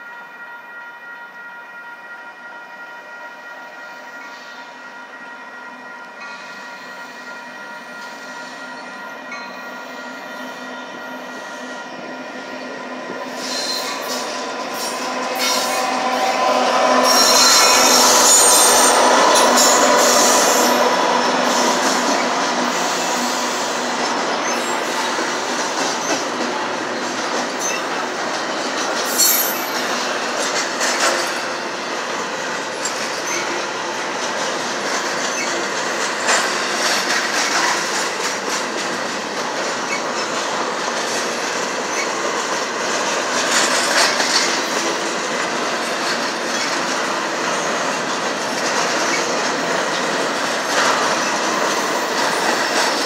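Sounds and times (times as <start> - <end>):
train wheels rumbling and rattling: 6.3 - 53.0.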